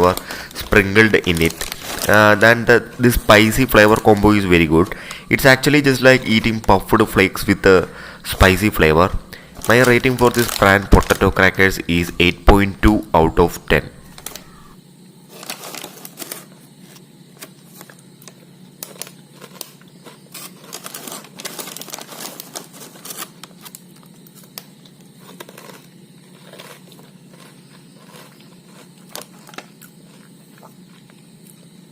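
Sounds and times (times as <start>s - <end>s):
crackers crunching: 0.0s - 31.9s.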